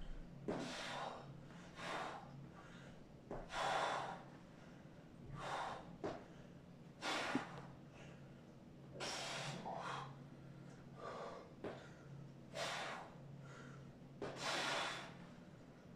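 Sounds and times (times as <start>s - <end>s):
man breathing hard: 0.0s - 15.4s.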